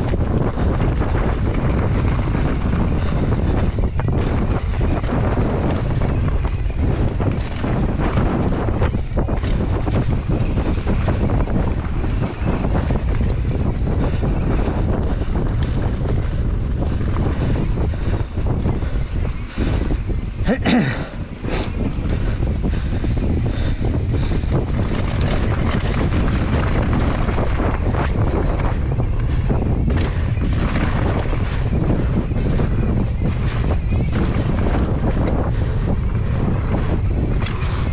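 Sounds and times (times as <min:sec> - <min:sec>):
bike knocks and rattles: 0:00.0 - 0:37.9
bike rolling rumble: 0:00.0 - 0:37.9
wind buffeting microphone: 0:00.0 - 0:37.9.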